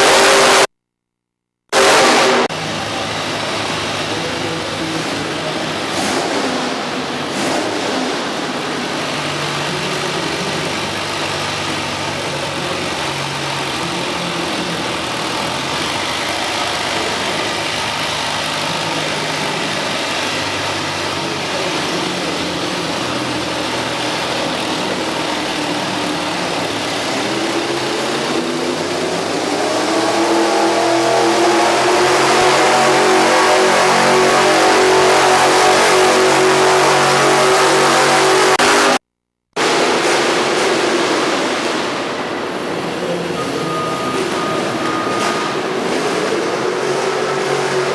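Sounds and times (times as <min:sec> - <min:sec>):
tractor engine revving: 0:00.0 - 0:00.8, 0:01.7 - 0:47.9.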